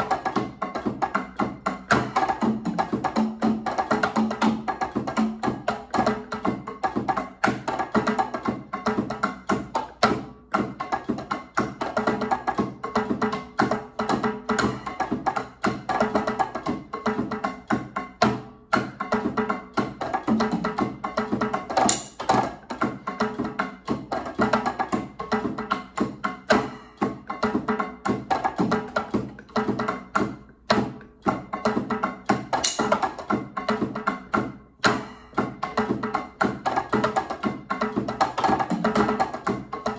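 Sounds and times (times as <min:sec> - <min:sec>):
electronic drums latin percussion: 0:00.0 - 0:39.9.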